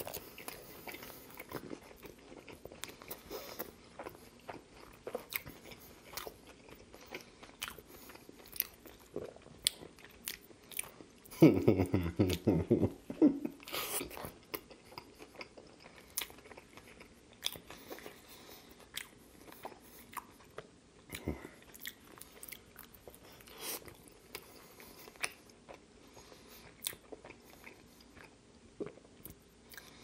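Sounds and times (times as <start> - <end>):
moist chewing with crunches: 0.0 - 11.2, 13.6 - 30.0.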